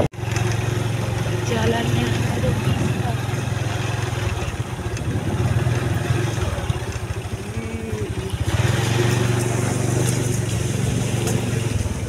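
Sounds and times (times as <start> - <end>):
small motorcycle engine: 0.0 - 12.0.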